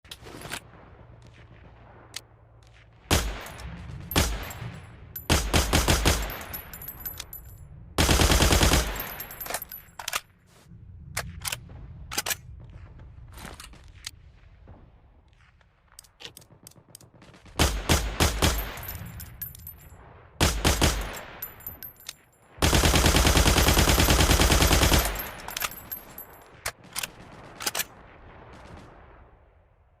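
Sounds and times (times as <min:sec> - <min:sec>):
rifle gunshots and automatic bursts: 0:00.1 - 0:10.4, 0:15.4 - 0:29.2.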